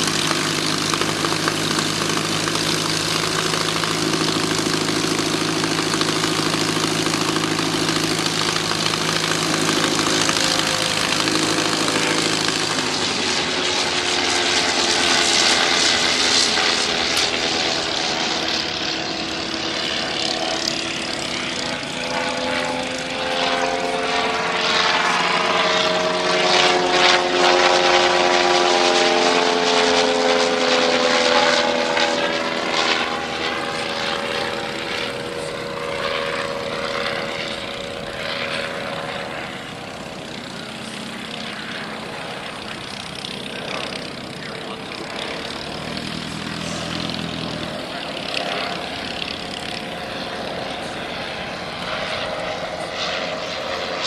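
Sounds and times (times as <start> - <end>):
model aircraft motor and propeller: 0.0 - 54.0.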